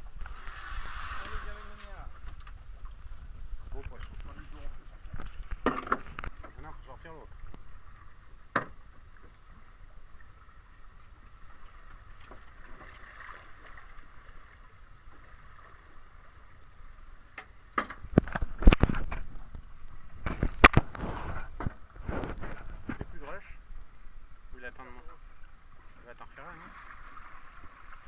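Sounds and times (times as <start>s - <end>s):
faint wind and sea hiss: 0.0s - 28.0s.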